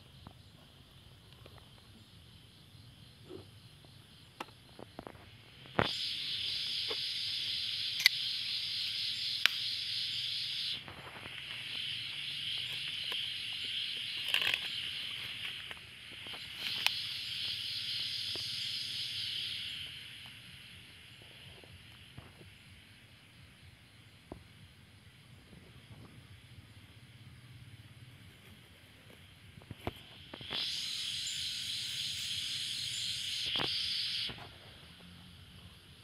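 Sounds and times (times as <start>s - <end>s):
insect trilling: 0.0s - 36.0s.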